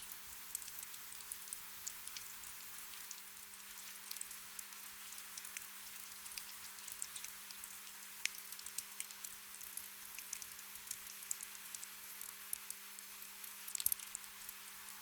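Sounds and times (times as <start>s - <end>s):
gentle rain hiss: 0.0s - 15.0s
raindrops pattering: 0.0s - 15.0s.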